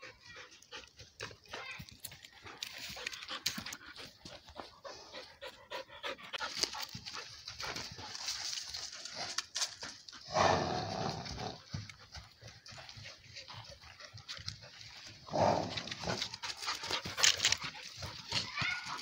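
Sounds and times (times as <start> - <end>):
small clicks and scuffs: 0.3 - 5.0, 6.2 - 10.2, 11.7 - 19.0.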